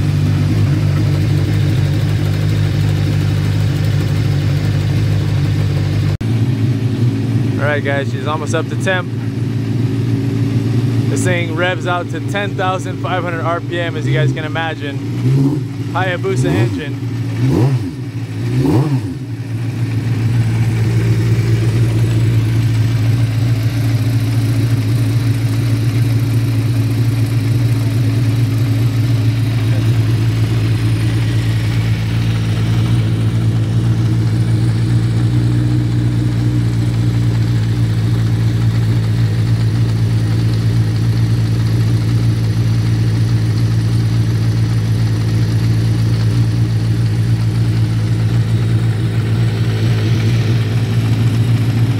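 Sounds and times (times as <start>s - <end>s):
race car engine idling: 0.0s - 51.9s.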